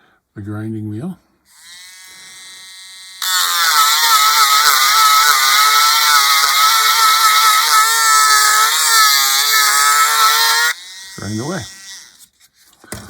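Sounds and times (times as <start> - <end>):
grinding wheel hiss: 1.5 - 12.2
small motor whine: 1.5 - 12.3.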